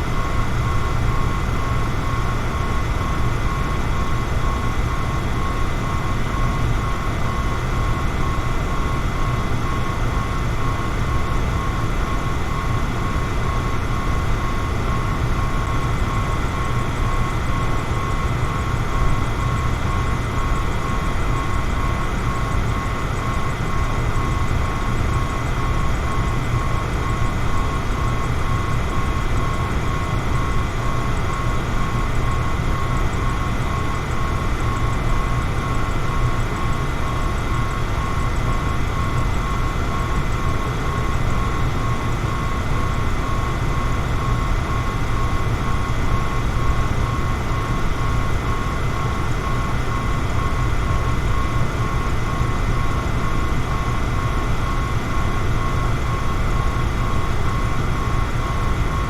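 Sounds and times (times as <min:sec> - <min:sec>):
fan motor whine: 0:00.0 - 0:59.0.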